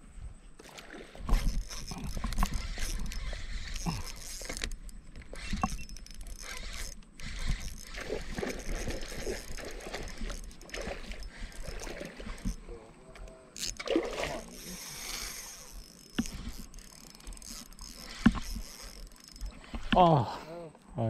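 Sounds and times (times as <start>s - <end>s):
fishing reel gears whirring: 1.2s - 12.8s, 13.5s - 20.1s.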